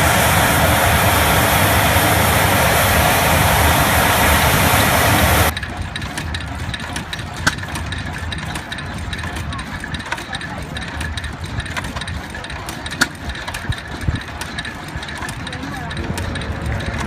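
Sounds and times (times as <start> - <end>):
propeller aircraft engine running: 0.0 - 17.0
steady engine hum: 0.0 - 17.0.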